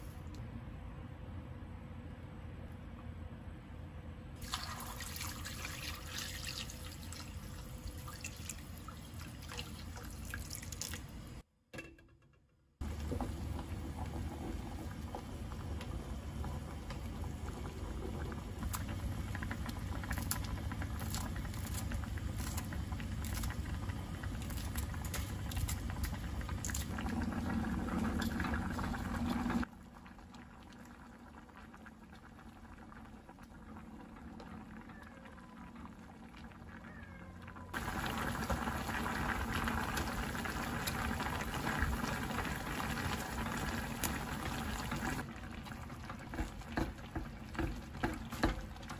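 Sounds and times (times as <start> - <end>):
liquid bubbling in a pot: 4.4 - 11.4, 12.8 - 48.9.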